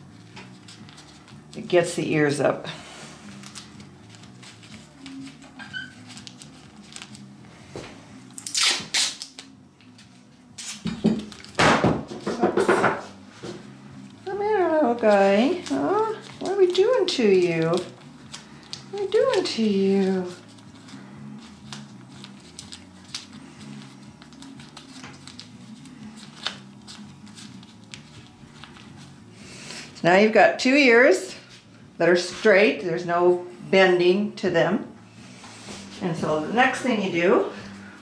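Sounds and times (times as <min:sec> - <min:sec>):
low steady hum: 0:00.0 - 0:08.6, 0:09.2 - 0:38.0
masking tape rustling and crinkling: 0:00.0 - 0:30.3, 0:35.2 - 0:38.0.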